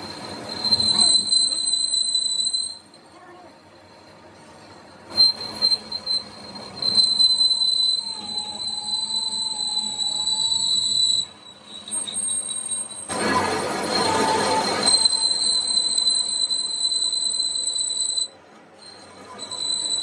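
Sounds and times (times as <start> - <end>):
high-pitched mechanical squeal: 0.0 - 20.0.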